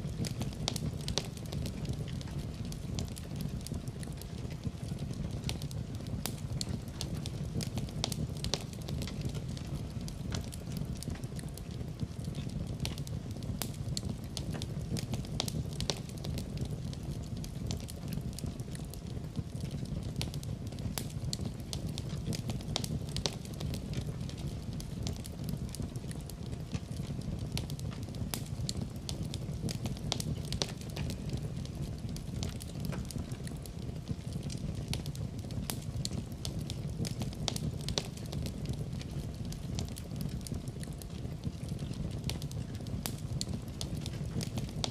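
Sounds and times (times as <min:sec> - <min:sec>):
fireplace fire crackling: 0:00.0 - 0:44.9.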